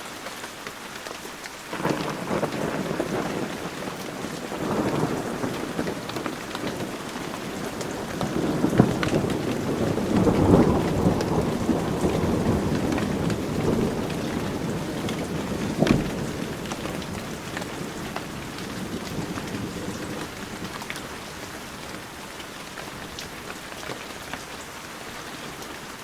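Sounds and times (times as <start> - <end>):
heavy rain: 0.0 - 26.0
thunder rumble: 1.7 - 23.6.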